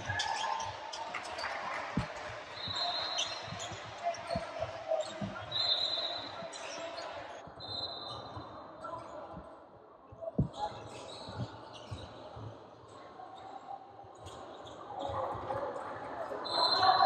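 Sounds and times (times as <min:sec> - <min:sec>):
faint voices: 0:00.0 - 0:17.0
large gym noise: 0:00.0 - 0:17.0.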